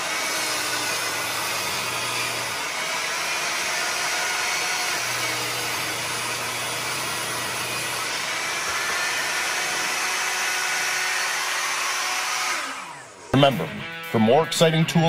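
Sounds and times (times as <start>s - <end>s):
table saw cutting wood: 0.0s - 14.0s.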